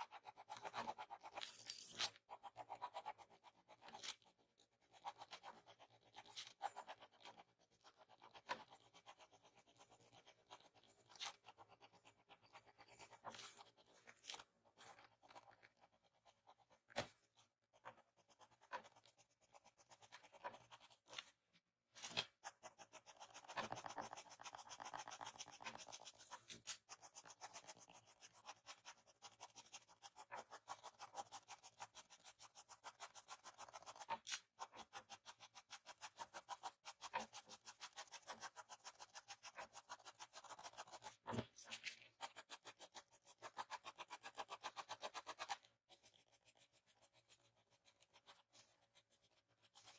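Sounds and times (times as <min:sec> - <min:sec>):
pencil scratching on paper: 0:00.0 - 0:49.9.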